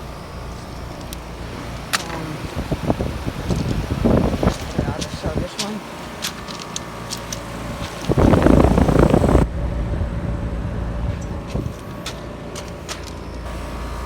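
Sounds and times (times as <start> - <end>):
heat pump hum: 0.0 - 14.0.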